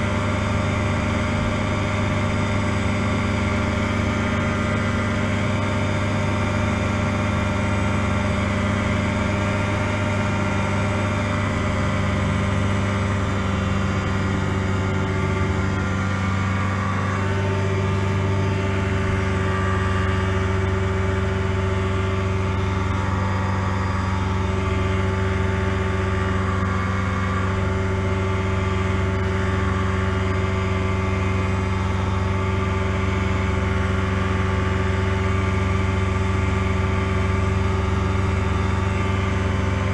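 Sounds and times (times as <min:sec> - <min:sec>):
ultralight aircraft engine droning: 0:00.0 - 0:39.9.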